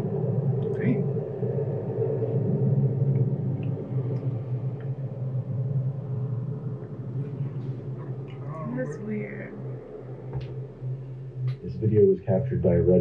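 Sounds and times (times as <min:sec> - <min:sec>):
low rumbling drone: 0:00.0 - 0:13.0.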